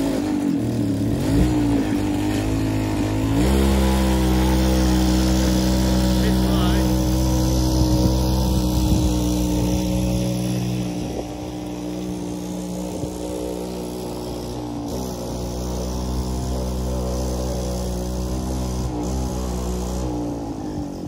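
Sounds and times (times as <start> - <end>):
mini bike engine running: 0.0 - 21.0.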